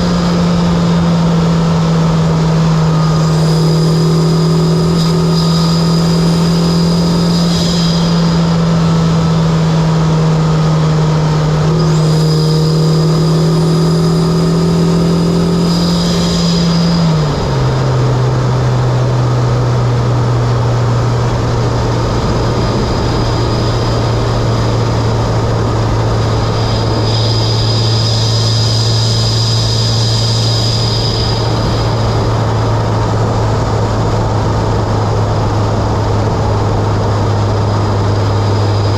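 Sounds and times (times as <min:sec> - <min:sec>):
car engine running: 0:00.0 - 0:38.9
loud engine intake noise: 0:00.0 - 0:38.9.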